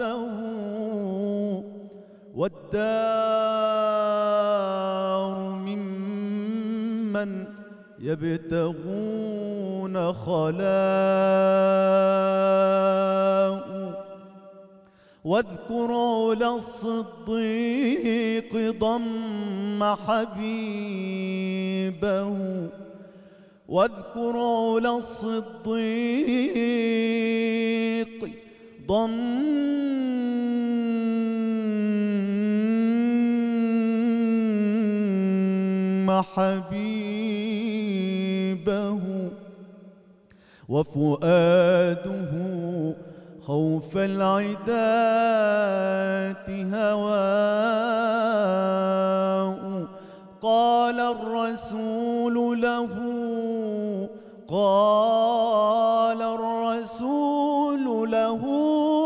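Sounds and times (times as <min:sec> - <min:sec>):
man singing religious song: 0:00.0 - 0:59.0.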